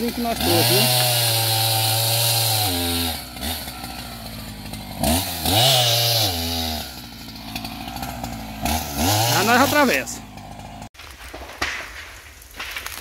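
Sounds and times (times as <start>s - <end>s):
chainsaw revving and idling: 0.0s - 11.0s.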